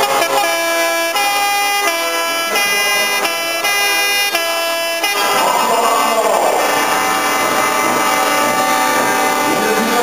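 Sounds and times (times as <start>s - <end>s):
crowd noise: 0.0s - 10.0s
musical air horn playing tune: 0.0s - 10.0s
truck engine noise: 0.0s - 10.0s.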